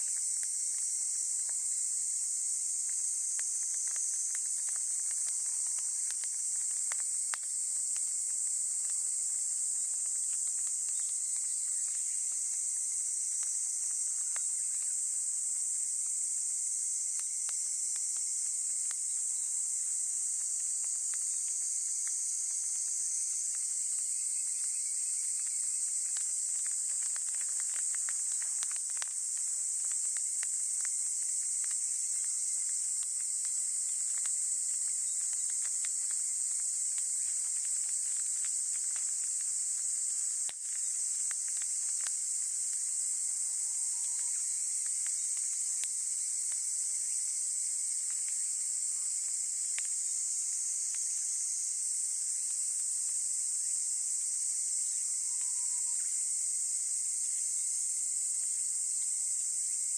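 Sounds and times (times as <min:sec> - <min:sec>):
insects chorus: 0:00.0 - 0:59.9
smouldering fire crackling: 0:00.0 - 0:59.9.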